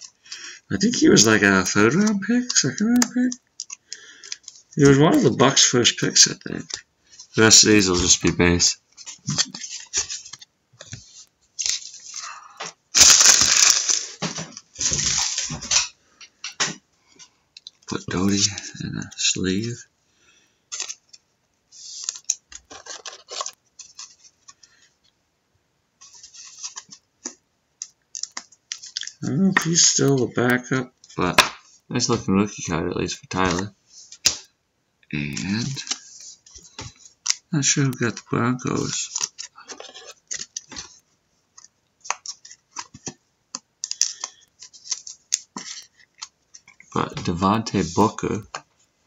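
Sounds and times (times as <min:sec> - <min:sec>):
trading cards rustling: 0:00.0 - 0:16.6, 0:17.6 - 0:19.8, 0:20.7 - 0:24.9, 0:26.0 - 0:34.5, 0:35.2 - 0:48.7.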